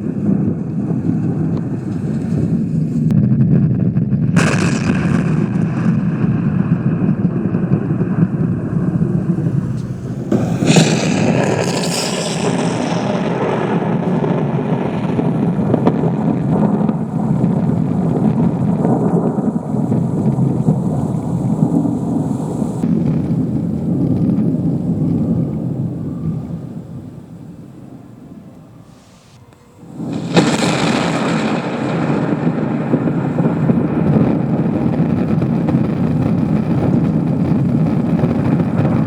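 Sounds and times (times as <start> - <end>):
rolling thunder rumble: 0.0 - 39.0
sharp thunder crack: 0.0 - 39.0.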